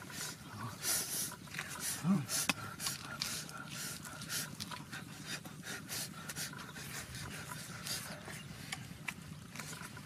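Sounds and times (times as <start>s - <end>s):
people chewing and lip smacking: 0.0s - 10.0s.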